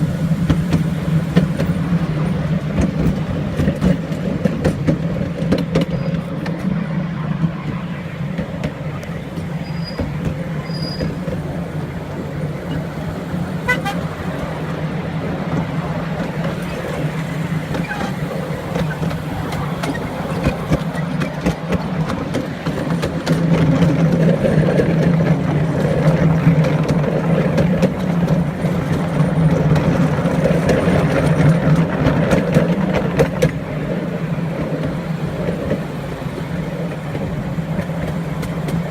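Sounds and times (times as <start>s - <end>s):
diesel train engine drone: 0.0s - 38.9s.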